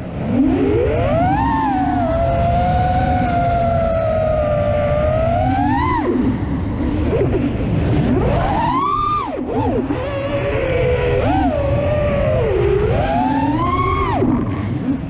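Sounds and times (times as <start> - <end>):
drone motors whining: 0.0 - 15.0
wind rumble on microphone: 0.0 - 15.0.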